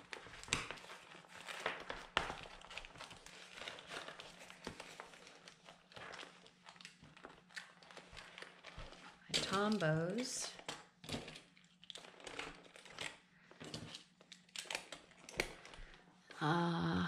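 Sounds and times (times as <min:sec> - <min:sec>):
vinyl pouch crinkling: 0:00.0 - 0:16.0.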